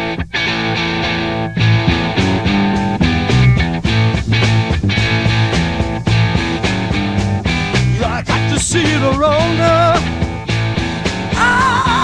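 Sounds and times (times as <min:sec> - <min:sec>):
bass and drums: 0:00.0 - 0:12.0
electric guitar: 0:00.0 - 0:12.0.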